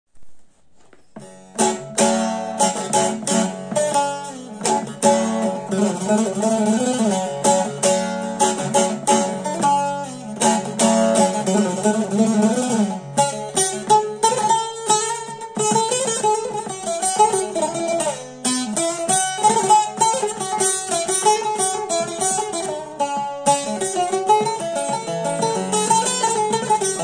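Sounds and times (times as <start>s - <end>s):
long-necked lute playing: 1.2s - 27.0s.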